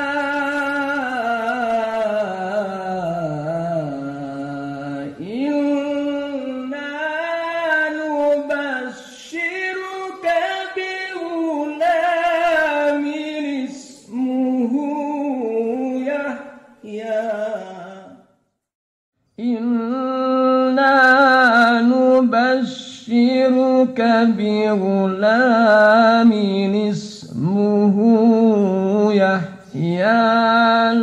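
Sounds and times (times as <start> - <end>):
man chanting melodic recitation: 0.0 - 18.1, 19.4 - 31.0.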